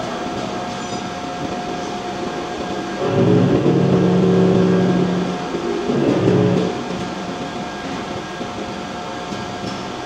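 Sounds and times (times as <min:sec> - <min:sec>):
factory machinery hum: 0:00.0 - 0:10.0.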